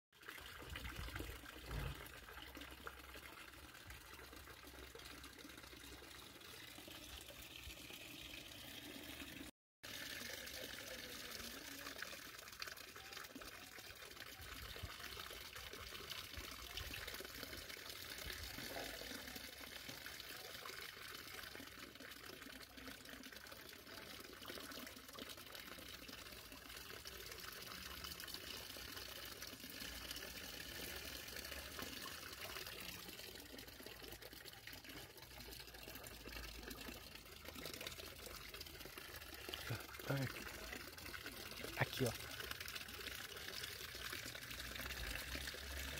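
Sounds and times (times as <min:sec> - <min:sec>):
water trickling into pond: 0:00.1 - 0:45.9.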